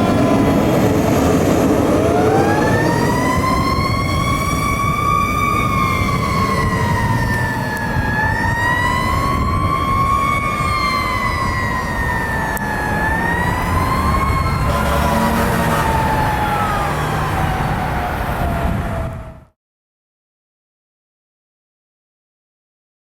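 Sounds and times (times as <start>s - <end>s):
truck engine rumble: 0.0s - 19.4s
fire engine siren wailing: 0.0s - 19.6s.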